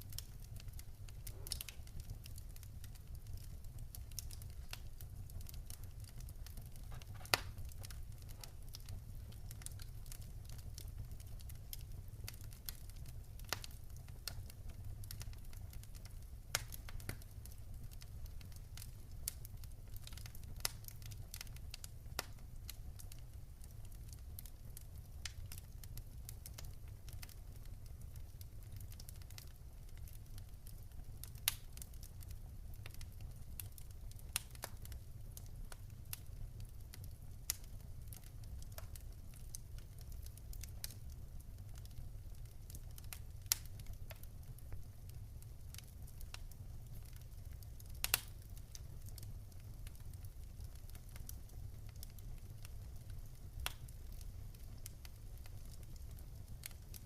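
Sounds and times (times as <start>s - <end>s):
low rumble of fire: 0.0s - 57.0s
logs crackling and popping: 0.1s - 57.0s.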